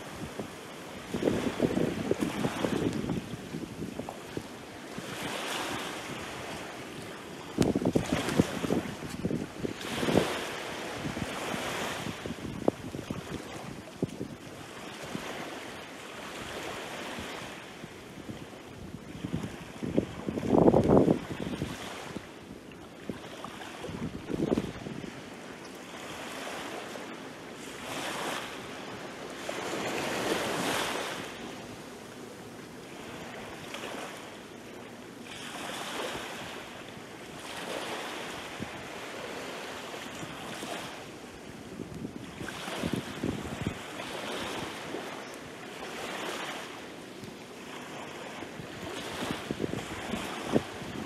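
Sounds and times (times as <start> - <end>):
small waves washing on sand: 0.0 - 51.0.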